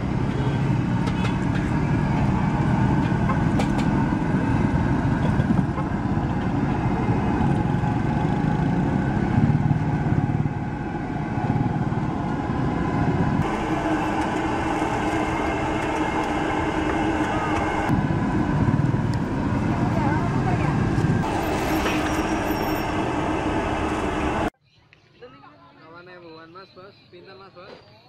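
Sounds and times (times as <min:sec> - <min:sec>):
passing motor vehicles: 0:00.0 - 0:24.5.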